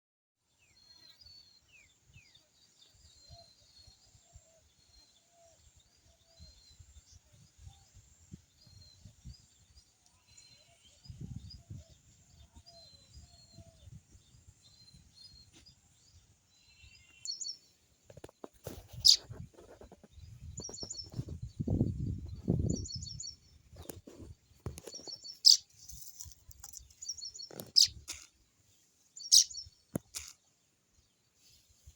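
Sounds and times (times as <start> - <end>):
small birds chirping: 0.5 - 31.9.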